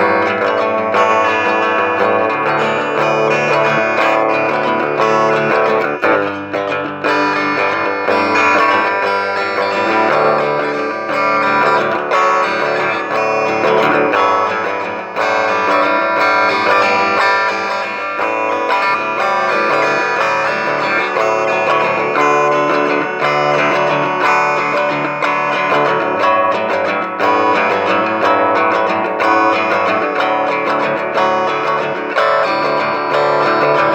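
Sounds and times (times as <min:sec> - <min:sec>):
guitars plucked and strummed: 0:00.0 - 0:33.9.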